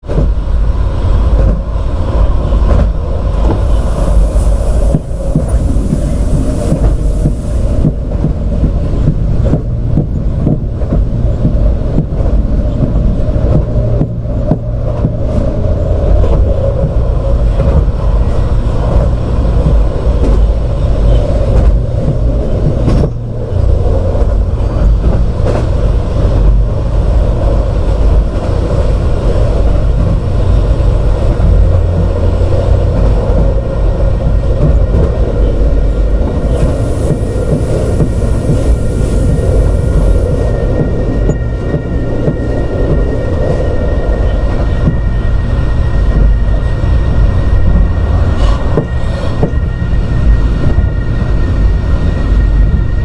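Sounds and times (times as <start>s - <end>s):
loud low rumble: 0.0s - 53.0s.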